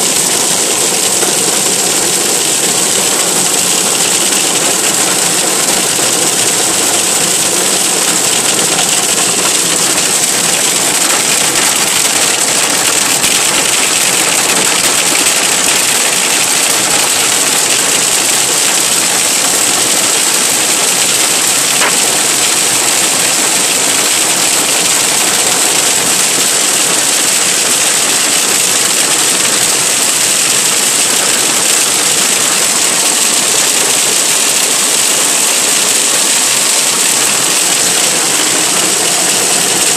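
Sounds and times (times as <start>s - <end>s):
hail and rain on car roof: 0.0s - 39.9s.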